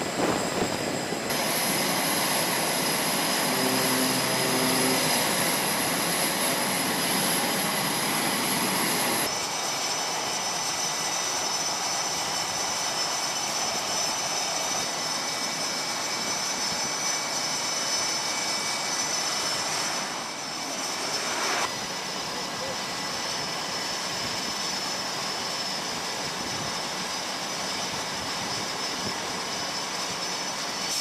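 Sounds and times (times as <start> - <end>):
jet engine roar with high whine: 0.0 - 31.0.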